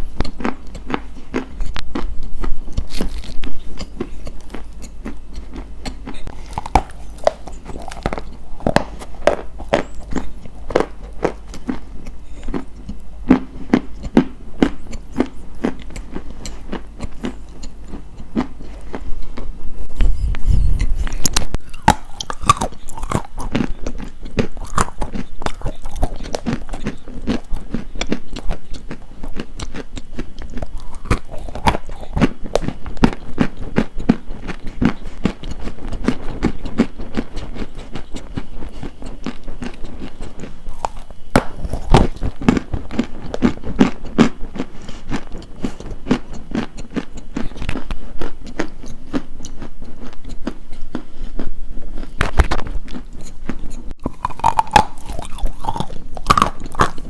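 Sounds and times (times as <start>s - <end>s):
brittle crunching and chewing: 0.0s - 19.6s, 20.8s - 57.0s.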